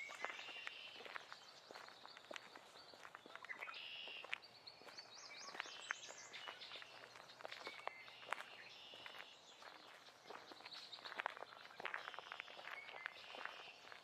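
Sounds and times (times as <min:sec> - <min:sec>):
footsteps crunching on leaf litter: 0:00.0 - 0:14.0
forest birds chirping and trilling: 0:00.0 - 0:14.0.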